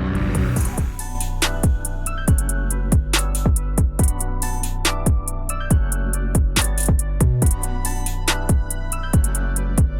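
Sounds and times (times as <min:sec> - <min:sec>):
electronic music with heavy beat: 0:00.0 - 0:09.9
deep kick drums: 0:00.2 - 0:04.3, 0:05.1 - 0:07.7, 0:08.5 - 0:09.9
hi-hat ticks: 0:00.6 - 0:09.9.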